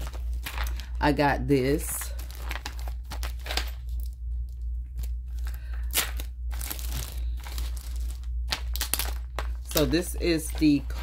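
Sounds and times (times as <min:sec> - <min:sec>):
plastic packaging crinkling: 0:00.0 - 0:11.0
steady low hum: 0:00.0 - 0:11.0.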